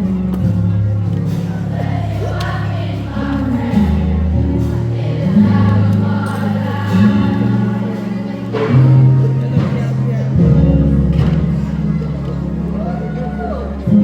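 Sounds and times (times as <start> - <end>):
low bass line: 0.0 - 14.0
choir singing held notes: 0.4 - 14.0.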